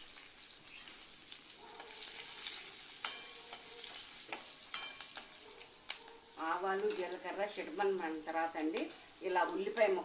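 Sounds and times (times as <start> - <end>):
chilli sizzling in hot oil: 0.0 - 10.0.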